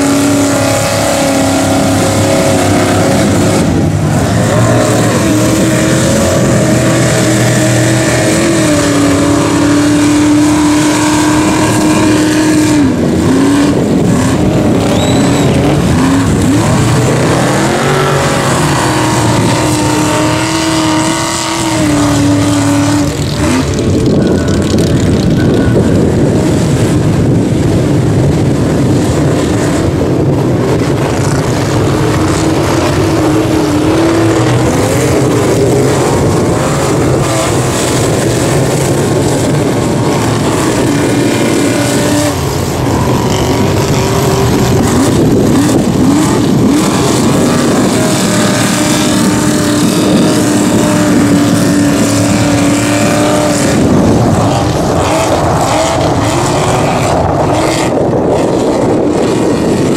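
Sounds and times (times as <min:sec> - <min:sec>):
truck engine revving: 0:00.0 - 0:59.9
tyres churning mud: 0:00.0 - 0:59.9.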